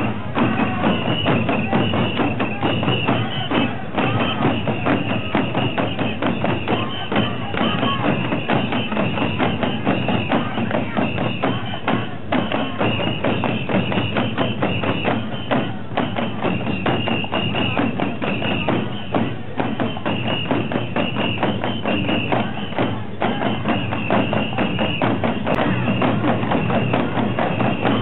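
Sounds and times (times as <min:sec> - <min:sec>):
fan drums beaten fast: 0:00.0 - 0:28.0.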